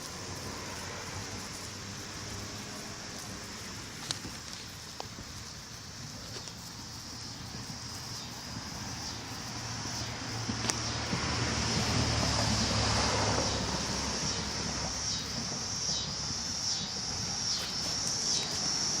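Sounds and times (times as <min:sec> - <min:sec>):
high-pitched insect chorus: 0:00.0 - 0:19.0
wind rumbling on microphone: 0:00.0 - 0:19.0.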